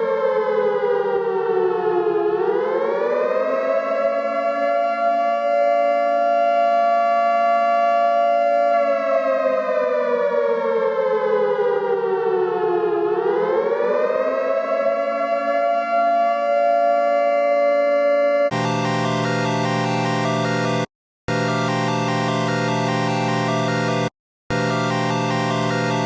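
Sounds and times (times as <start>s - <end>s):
civil defense siren wailing: 0.0s - 26.0s.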